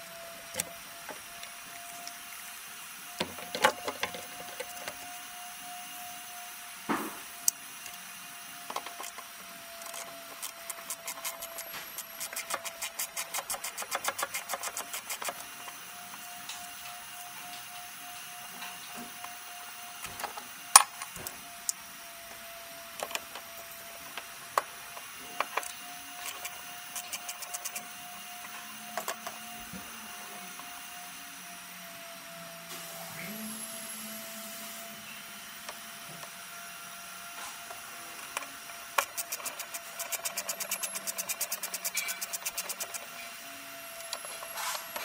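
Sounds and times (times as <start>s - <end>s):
thin background hum: 0.0s - 45.0s.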